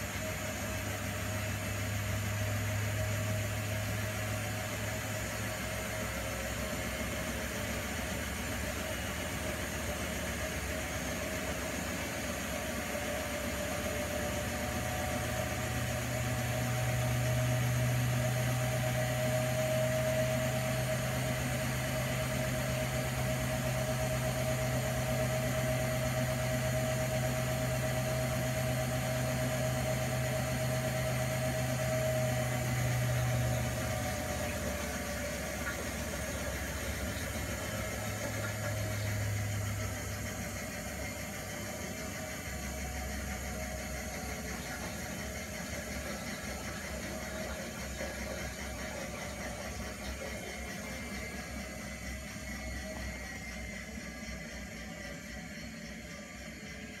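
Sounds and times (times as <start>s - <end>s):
washing machine motor humming: 0.0s - 57.0s.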